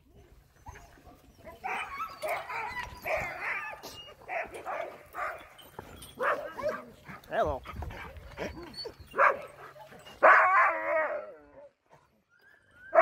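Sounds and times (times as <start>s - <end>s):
dogs whining and yipping: 0.1s - 13.0s.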